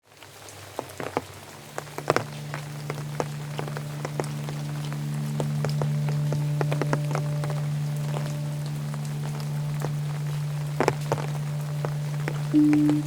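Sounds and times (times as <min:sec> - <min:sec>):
heavy rain hissing: 0:00.2 - 0:13.0
raindrops tapping on window: 0:00.6 - 0:13.0
low steady hum: 0:02.2 - 0:13.0.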